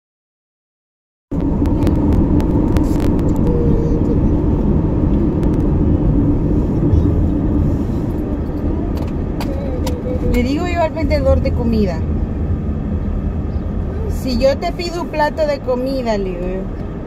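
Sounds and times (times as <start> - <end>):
car cabin road and engine rumble: 1.3 - 17.0.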